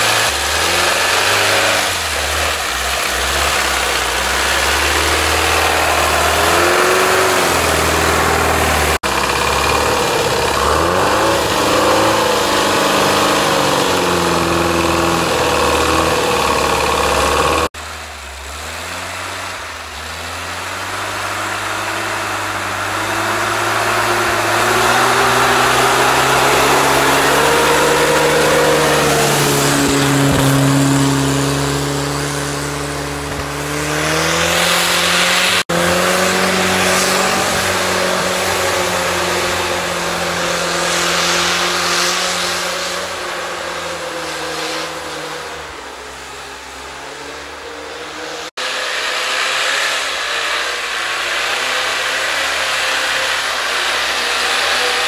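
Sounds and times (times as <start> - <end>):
tyres spinning and throwing snow: 0.0 - 17.7, 18.4 - 46.9, 47.9 - 55.0
off-road vehicle engine revving: 0.0 - 55.0.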